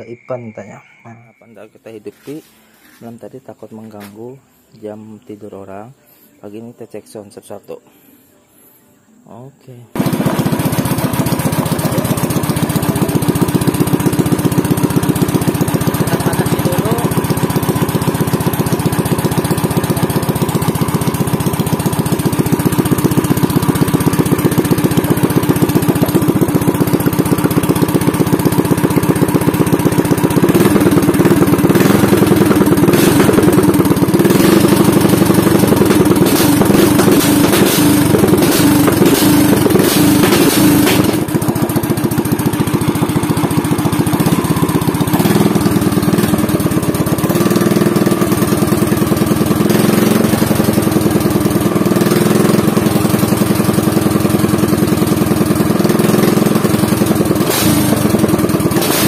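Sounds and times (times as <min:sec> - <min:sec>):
small engine pulsing exhaust: 0:09.9 - 0:59.0.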